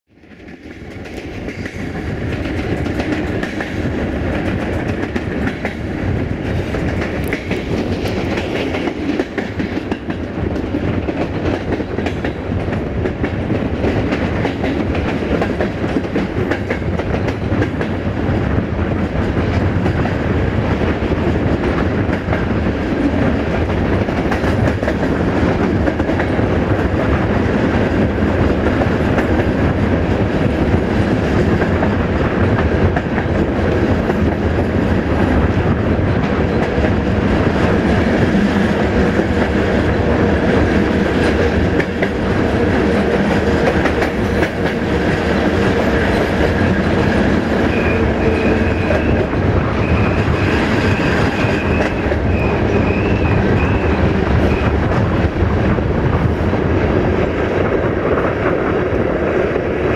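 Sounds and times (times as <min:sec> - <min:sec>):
rail clicks: 0:00.1 - 0:59.9
train wheels rolling on track: 0:00.1 - 0:59.9.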